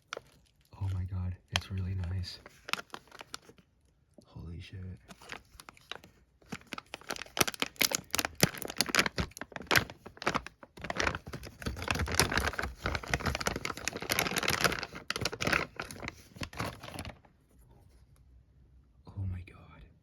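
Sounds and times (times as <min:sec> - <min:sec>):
packaging crinkling and rustling: 0:00.0 - 0:03.9, 0:05.0 - 0:17.4.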